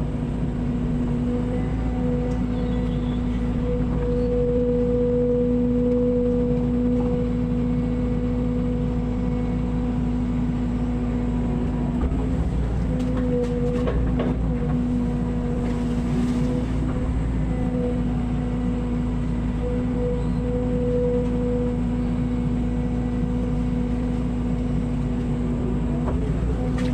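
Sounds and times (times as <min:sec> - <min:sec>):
excavator engine droning: 0:00.0 - 0:26.9.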